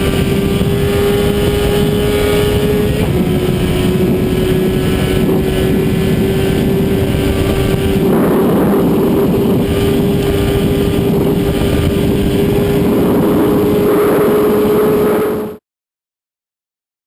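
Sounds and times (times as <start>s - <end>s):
car engine at high revs: 0.0s - 15.6s
wind and road noise: 0.0s - 15.6s.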